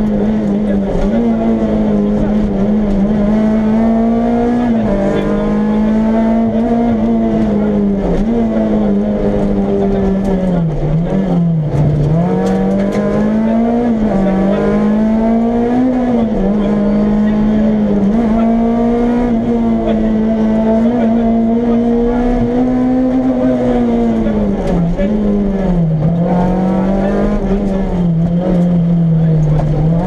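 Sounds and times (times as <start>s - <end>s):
car engine running hard: 0.0s - 30.0s.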